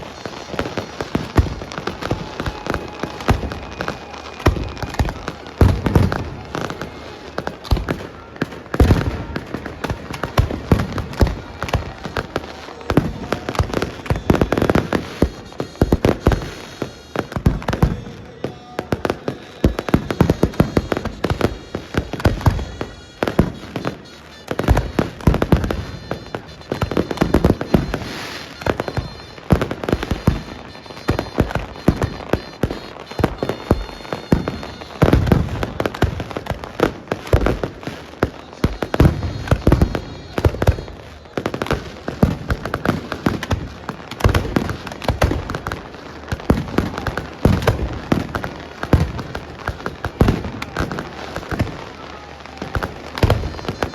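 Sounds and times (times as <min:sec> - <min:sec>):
fireworks and firecrackers cracking: 0:00.0 - 0:53.9.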